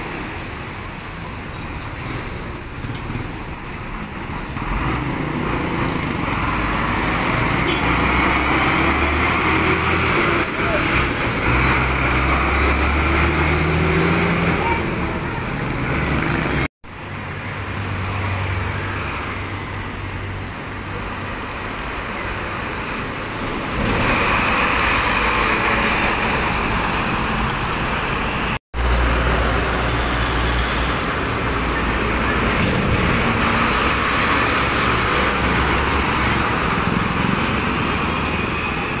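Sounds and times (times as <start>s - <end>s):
tyre and road noise: 0.0s - 39.0s
diesel truck engine drone: 2.0s - 39.0s.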